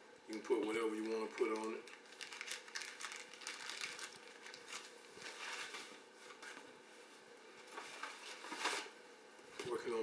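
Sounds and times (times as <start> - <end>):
faint rustling of wrapping: 0.3 - 8.9.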